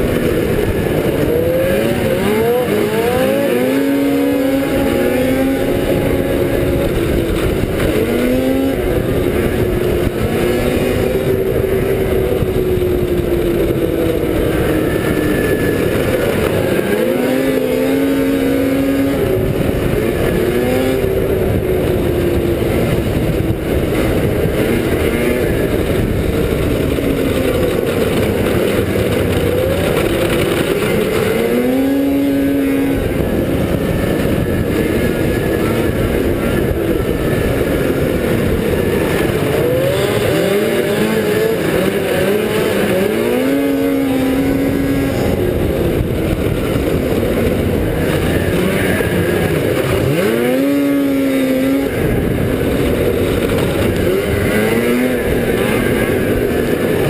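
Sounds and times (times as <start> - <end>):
heavy rushing noise: 0.0 - 57.0
snowmobile engine revving: 0.0 - 57.0.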